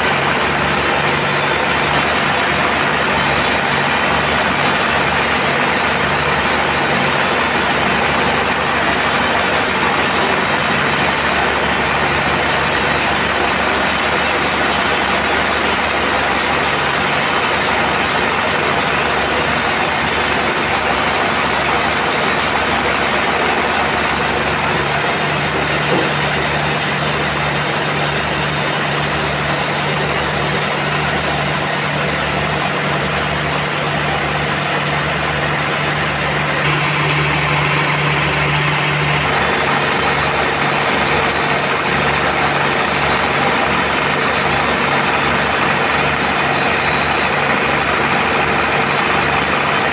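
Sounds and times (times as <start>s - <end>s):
band saw droning: 0.0s - 49.9s.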